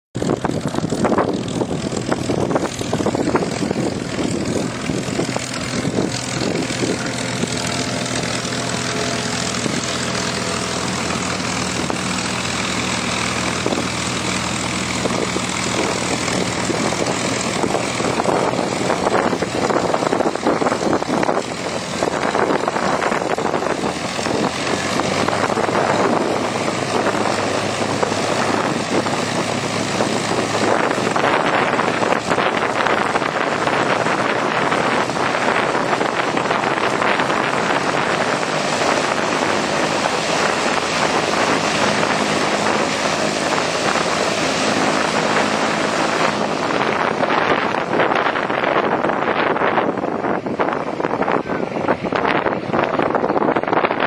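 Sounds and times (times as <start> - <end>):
propeller plane engine running: 0.1 - 54.0
wind buffeting microphone: 0.2 - 54.0.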